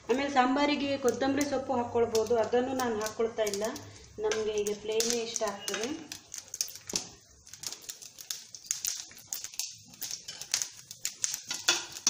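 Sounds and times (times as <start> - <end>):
mustard seeds popping in oil: 0.0 - 12.0.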